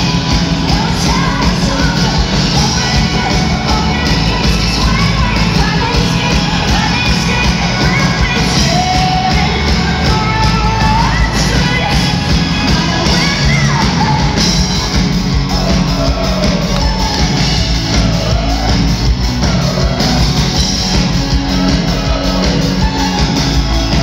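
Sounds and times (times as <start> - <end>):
drums: 0.0 - 24.0
woman singing lead: 0.0 - 24.0.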